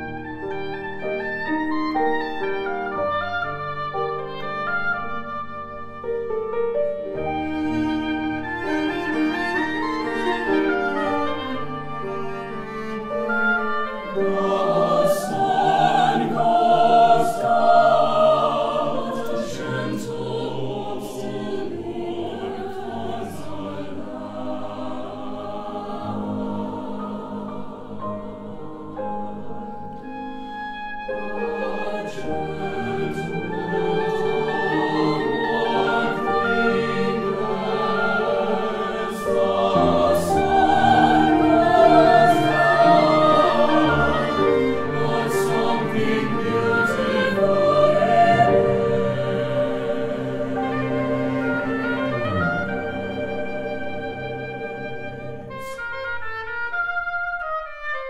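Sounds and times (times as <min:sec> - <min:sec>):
piano cello and oboe: 0:00.0 - 0:58.0
mixed choir singing: 0:07.2 - 0:30.2, 0:31.0 - 0:56.0.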